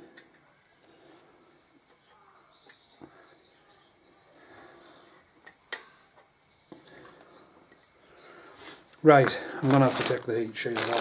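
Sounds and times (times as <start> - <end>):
faint bird chirps: 0.0 - 9.0.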